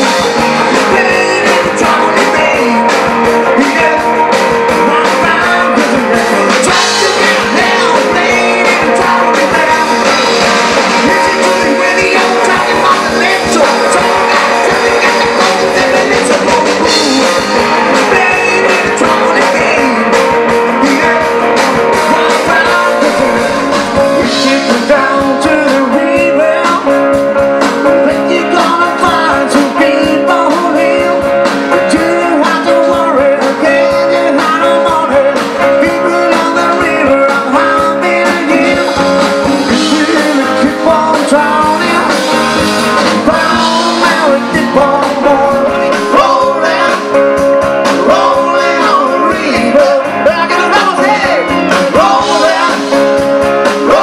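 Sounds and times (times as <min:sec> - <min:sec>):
live rock band: 0:00.0 - 0:54.0
man singing: 0:00.0 - 0:54.0.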